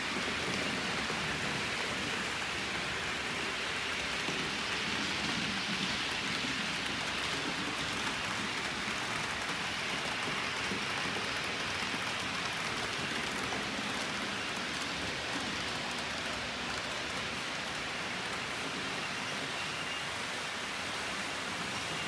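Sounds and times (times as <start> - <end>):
model trains rolling on rails: 0.0 - 22.0.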